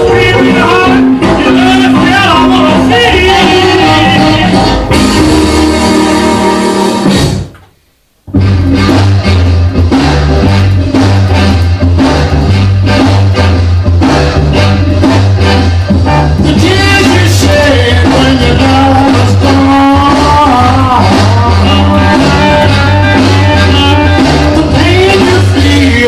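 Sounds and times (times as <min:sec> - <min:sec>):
rock and roll music: 0:00.0 - 0:07.6, 0:08.3 - 0:26.0.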